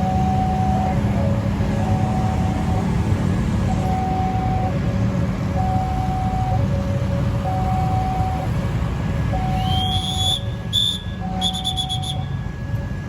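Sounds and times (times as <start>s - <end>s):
two-tone level crossing alarm: 0.0s - 3.0s, 3.7s - 4.8s, 5.6s - 8.6s, 9.3s - 13.0s.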